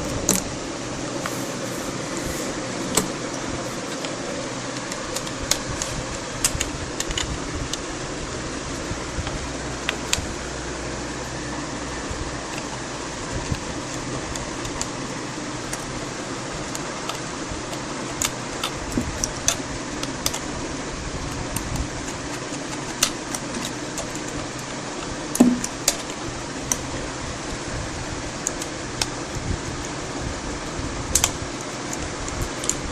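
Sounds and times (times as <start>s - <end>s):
fan hiss: 0.0s - 32.9s.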